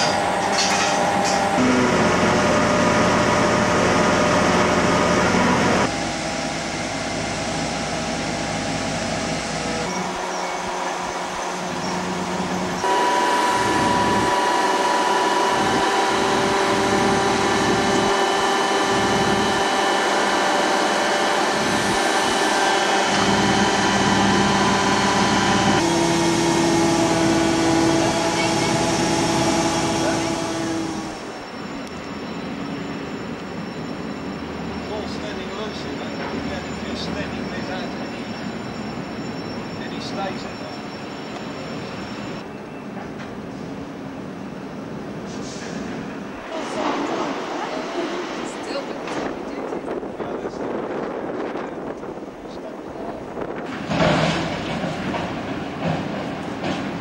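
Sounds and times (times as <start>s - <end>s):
loud machine drone: 0.0s - 51.6s.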